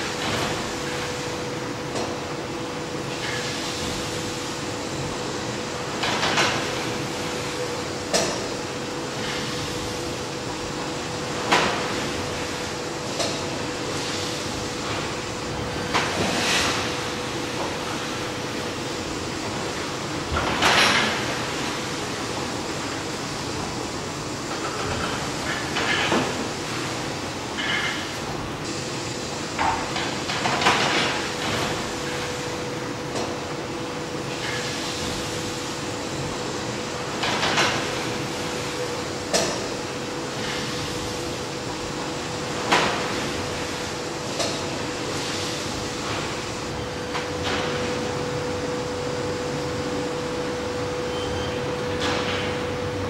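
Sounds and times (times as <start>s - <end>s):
steady motor hum: 0.0s - 53.0s.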